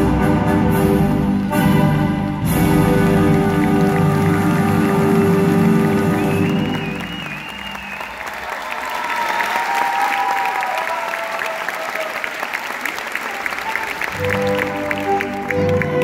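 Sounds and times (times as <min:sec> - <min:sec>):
audience applauding: 0:02.2 - 0:16.0.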